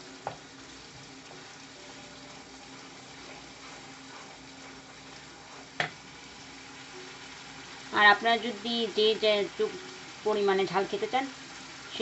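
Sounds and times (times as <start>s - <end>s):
onions frying in oil: 0.0s - 12.0s.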